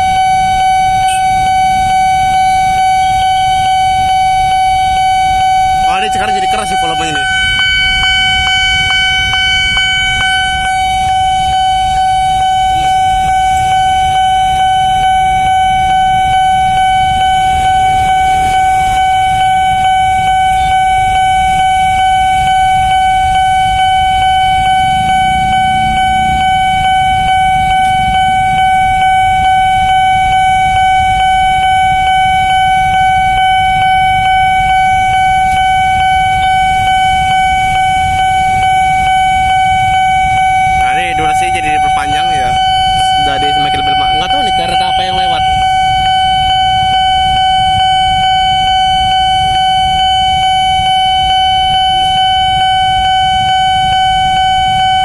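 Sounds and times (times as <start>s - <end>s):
level crossing alarm tone: 0.0s - 55.0s.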